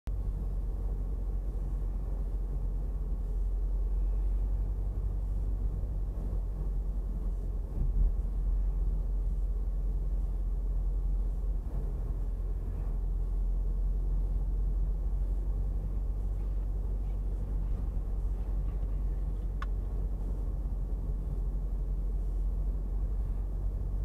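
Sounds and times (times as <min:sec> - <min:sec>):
car rumbling in motion: 0:00.1 - 0:24.0.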